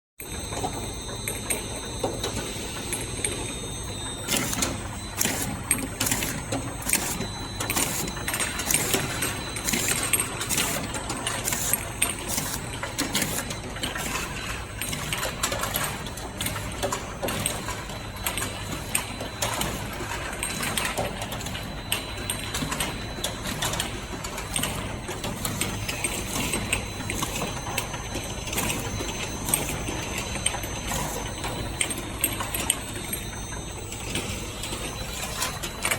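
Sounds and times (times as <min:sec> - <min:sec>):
labeling machine humming: 0:00.2 - 0:35.9
sharp machine clicks and knocks: 0:04.3 - 0:35.9.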